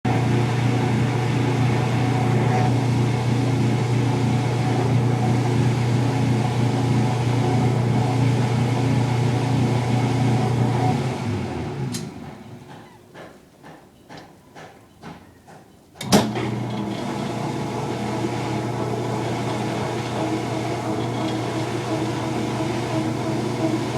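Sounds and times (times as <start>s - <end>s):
washing machine spinning: 0.0s - 23.9s.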